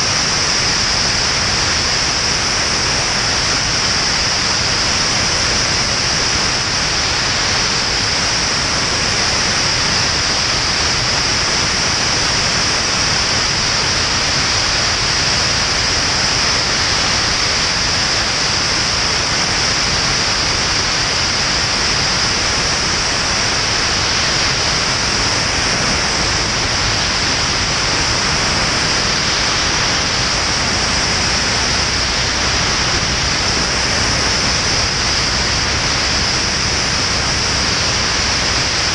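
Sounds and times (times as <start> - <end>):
wind rushing over camera: 0.0 - 38.9.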